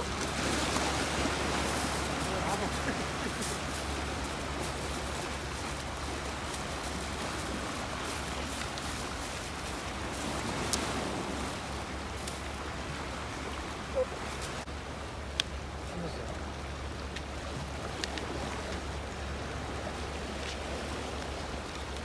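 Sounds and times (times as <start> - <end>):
surf: 0.0 - 22.0
wind: 0.0 - 22.0.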